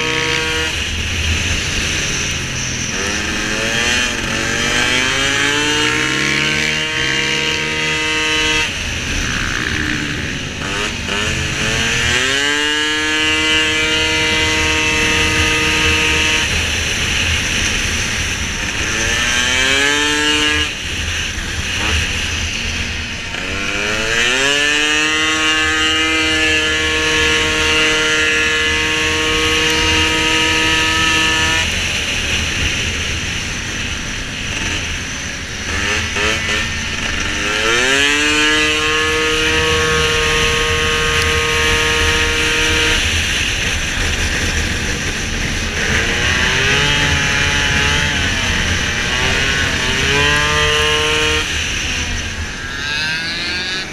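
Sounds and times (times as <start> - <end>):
scooter engine revving: 0.0 - 53.9.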